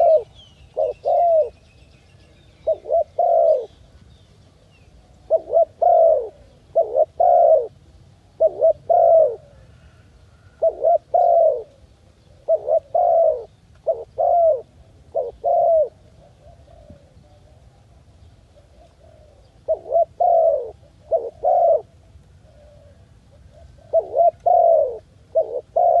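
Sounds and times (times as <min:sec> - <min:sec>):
dove cooing: 0:00.0 - 0:01.6, 0:02.2 - 0:26.0.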